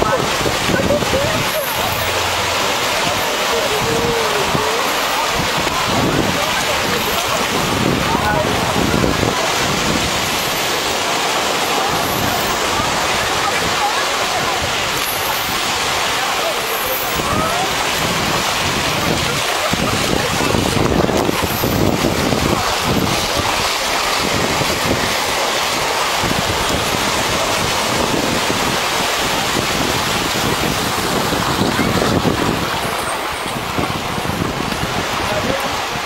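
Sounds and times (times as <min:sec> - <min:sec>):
wind on microphone: 0:00.0 - 0:16.3, 0:17.0 - 0:36.0
surf washing onto beach: 0:00.0 - 0:36.0.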